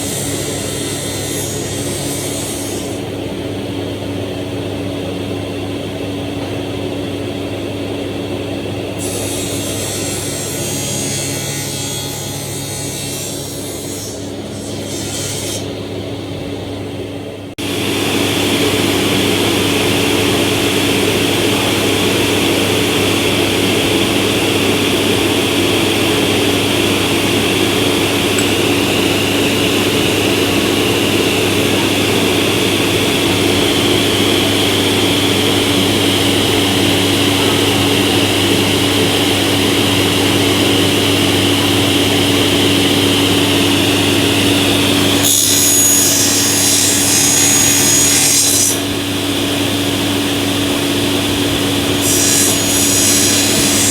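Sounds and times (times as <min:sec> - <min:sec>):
panel saw running with whine: 0:00.0 - 0:53.9.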